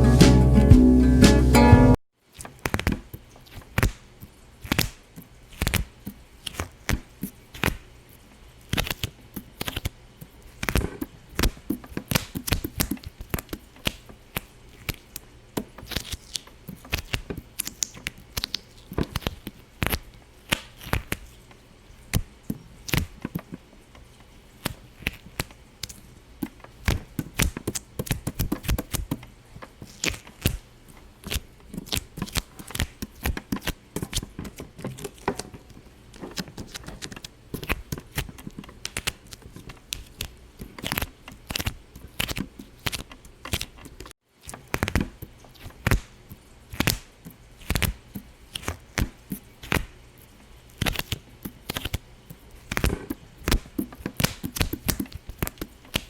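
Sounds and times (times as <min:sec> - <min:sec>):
sharp pops and cracks: 0:02.4 - 0:07.9, 0:08.7 - 0:21.4, 0:22.1 - 0:50.0, 0:50.8 - 0:56.0.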